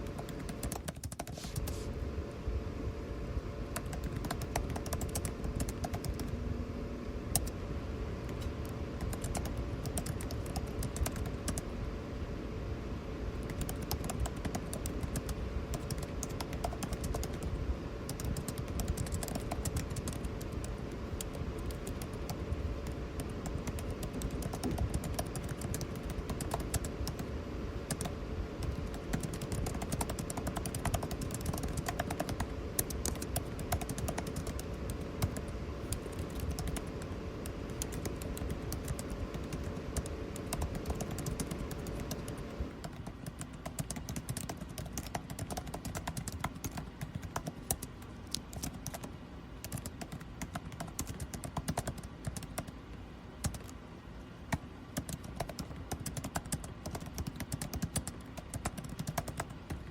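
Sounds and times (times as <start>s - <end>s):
computer keyboard typing: 0.0s - 1.8s, 3.7s - 6.4s, 7.3s - 7.6s, 8.2s - 11.7s, 13.4s - 52.8s, 53.4s - 53.8s, 54.5s - 59.9s
air conditioning hum: 0.0s - 59.9s.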